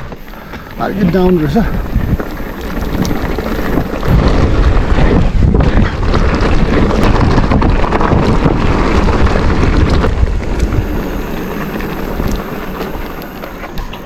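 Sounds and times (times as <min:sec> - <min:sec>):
wind rushing over microphone: 0:00.0 - 0:13.9.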